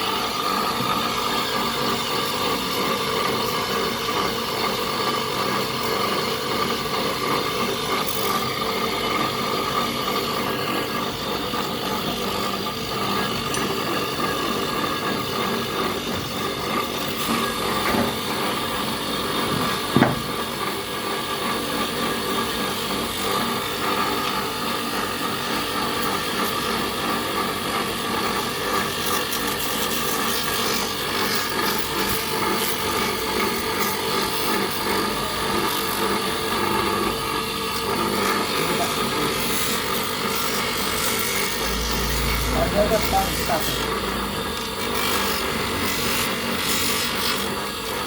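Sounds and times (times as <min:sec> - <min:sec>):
workshop machine humming: 0:00.0 - 0:48.0.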